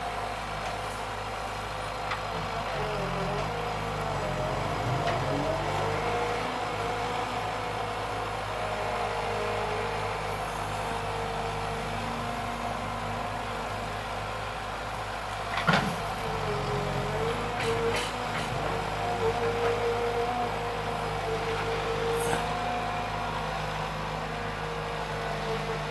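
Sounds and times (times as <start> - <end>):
diesel engine under load: 0.0 - 25.9.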